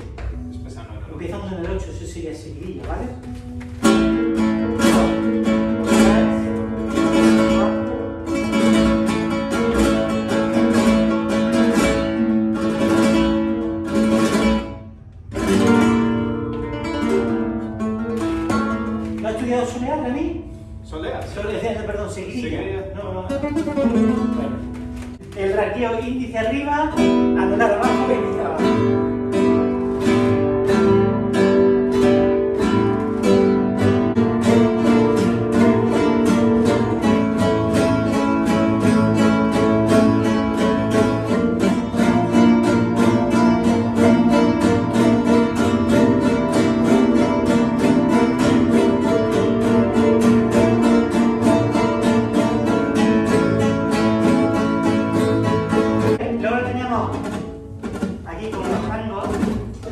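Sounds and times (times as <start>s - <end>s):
flamenco guitars strumming: 0.0s - 59.9s.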